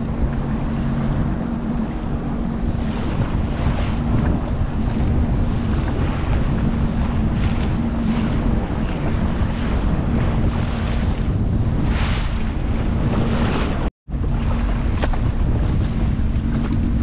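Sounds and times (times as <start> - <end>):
jet ski engine drone: 0.0 - 17.0
rushing water and spray: 0.0 - 17.0
wind buffeting microphone: 0.0 - 17.0.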